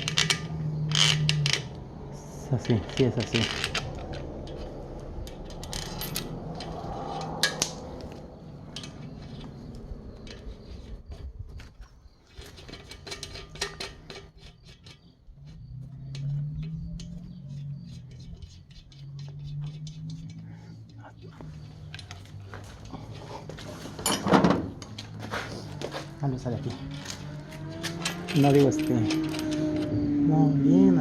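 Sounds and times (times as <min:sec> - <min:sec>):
metal tools clinking on metal: 0:00.0 - 0:11.2, 0:12.2 - 0:30.5.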